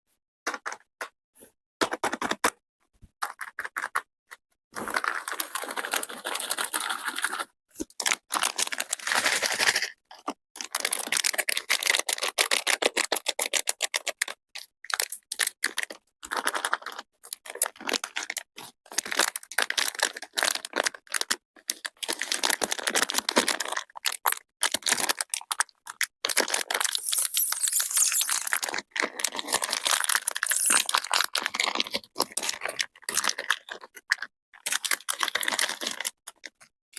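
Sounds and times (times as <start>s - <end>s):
chocolate crackling and crunching: 4.7s - 36.7s.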